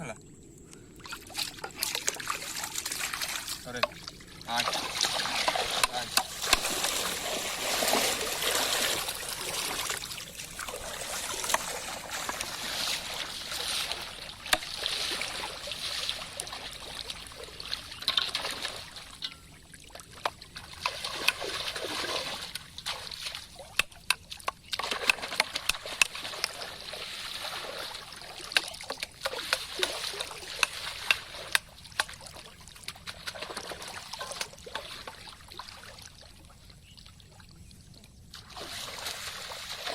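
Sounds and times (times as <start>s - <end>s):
shallow water splashing and trickling: 0.3s - 39.9s
sharp little splashes and clicks: 0.6s - 39.9s.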